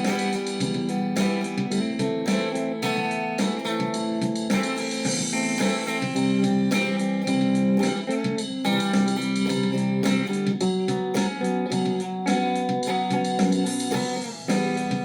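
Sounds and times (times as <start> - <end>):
guitar playing instrumental: 0.0 - 15.0.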